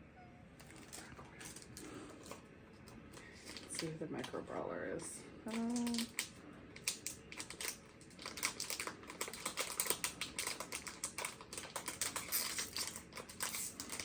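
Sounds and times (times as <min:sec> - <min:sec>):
plastic packaging clicks and crackles: 0:00.6 - 0:04.5, 0:05.5 - 0:14.0.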